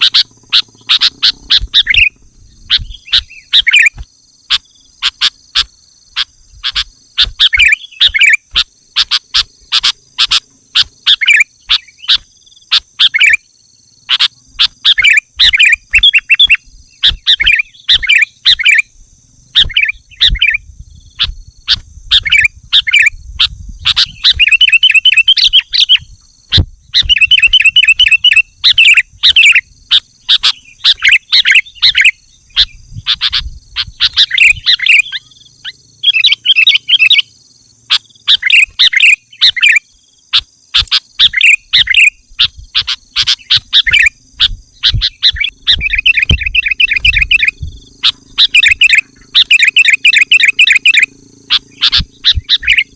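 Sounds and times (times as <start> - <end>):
bird singing chirps and trills: 0.0 - 52.9
steady high-pitched buzz: 0.0 - 52.9.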